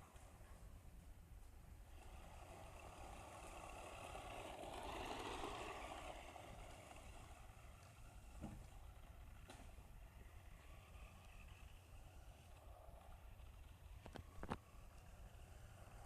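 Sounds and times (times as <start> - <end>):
toy truck motor whining: 1.9 - 16.0.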